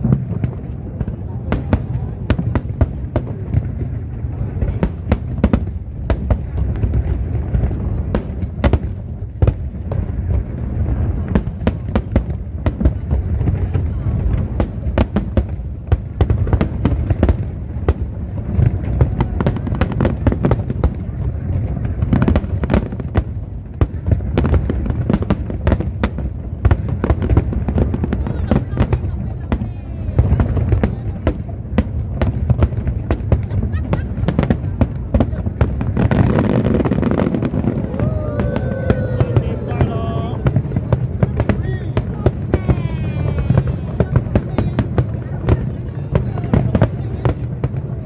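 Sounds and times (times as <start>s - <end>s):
low rumble of firework booms: 0.0s - 48.0s
sharp firework cracks and bangs: 0.0s - 48.0s.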